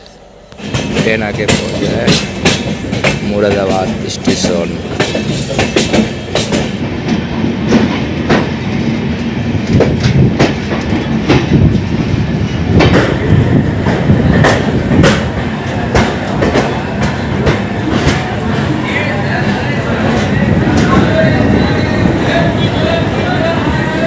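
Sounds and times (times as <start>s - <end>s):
train rumbling: 0.0s - 24.0s
wheels clacking over rail joints: 0.6s - 24.0s.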